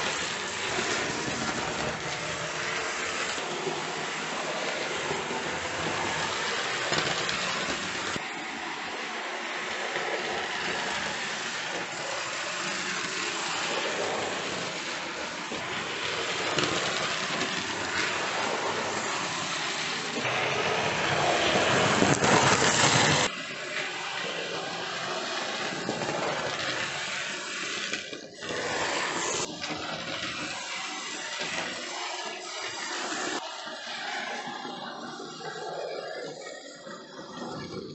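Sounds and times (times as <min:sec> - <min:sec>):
model train motor whirring: 0:00.0 - 0:37.9.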